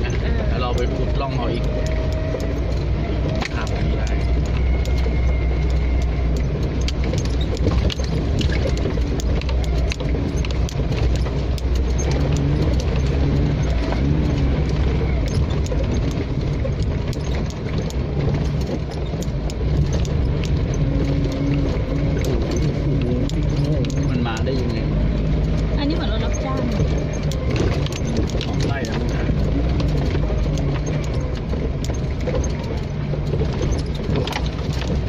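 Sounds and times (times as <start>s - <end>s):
off-road vehicle engine: 0.0s - 35.0s
rattling and knocking: 0.0s - 35.0s.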